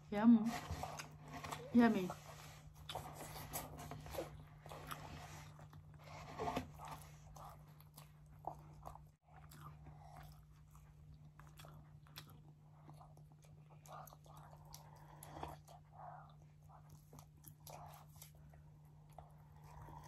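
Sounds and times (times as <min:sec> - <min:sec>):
crunchy pastry chewing: 0:02.7 - 0:20.0.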